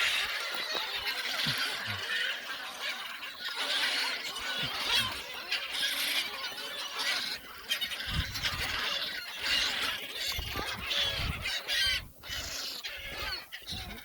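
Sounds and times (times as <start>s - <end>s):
gulls squealing: 0.0s - 14.0s.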